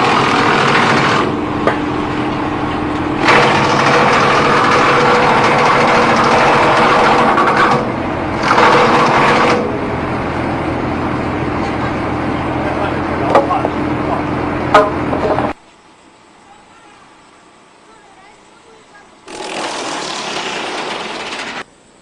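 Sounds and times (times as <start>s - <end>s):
wood chipper running: 0.0s - 15.6s, 19.2s - 21.7s.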